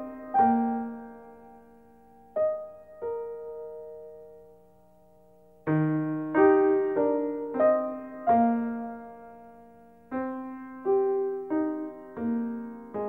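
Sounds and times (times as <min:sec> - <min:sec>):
slow quiet piano music: 0:00.0 - 0:13.0.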